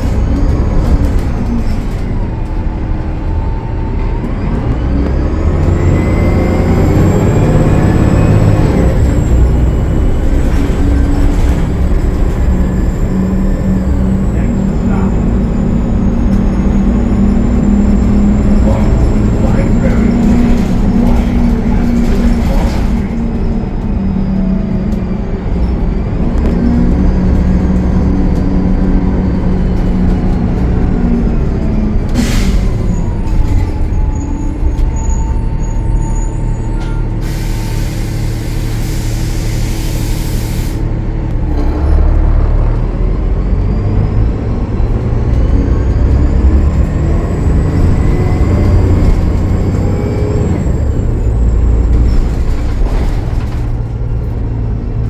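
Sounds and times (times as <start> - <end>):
bus diesel engine pulling: 0.0 - 55.0.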